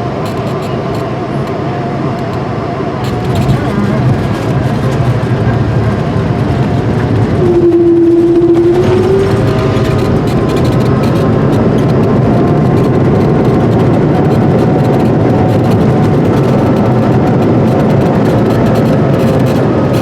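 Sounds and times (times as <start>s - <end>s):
faint jet engine whine: 0.0s - 20.0s
jet engine roar in cabin: 0.0s - 20.0s.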